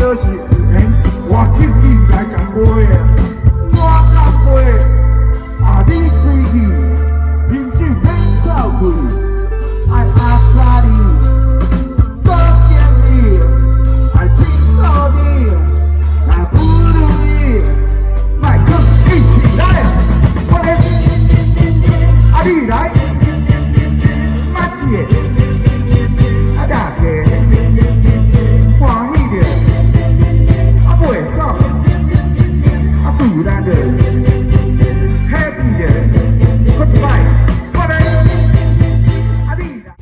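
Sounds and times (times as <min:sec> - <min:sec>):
person singing: 0:00.0 - 0:40.0
rock band playing live: 0:00.0 - 0:40.0.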